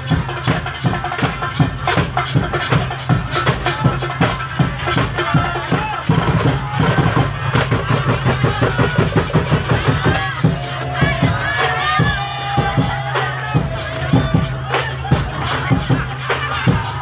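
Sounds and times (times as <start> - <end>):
crowd voices: 0.0 - 17.0
drum-driven dance music: 0.0 - 17.0.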